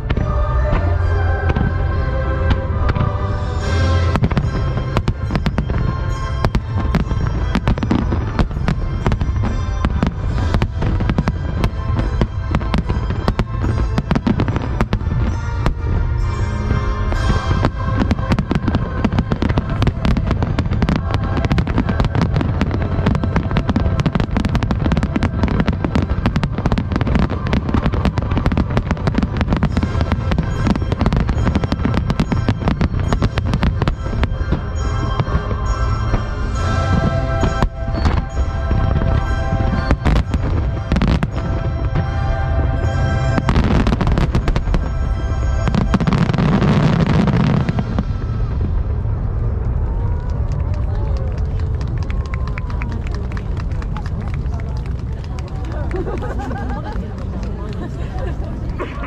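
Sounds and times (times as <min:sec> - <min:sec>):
music playing: 0:00.0 - 0:49.7
fireworks bursting: 0:00.0 - 0:50.5.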